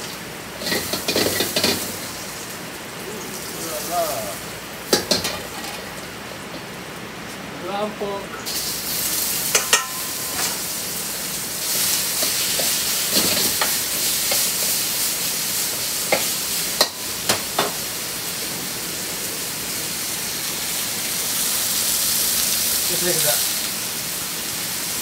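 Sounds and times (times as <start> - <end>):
pork sizzling in a wok: 0.0 - 7.5, 8.4 - 25.0.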